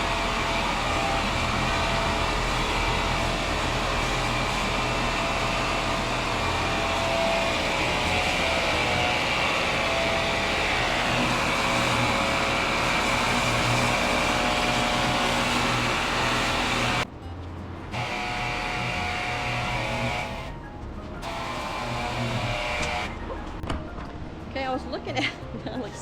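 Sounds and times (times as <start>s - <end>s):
small electric motor whining: 0.0s - 17.0s, 17.9s - 20.5s, 21.2s - 23.2s.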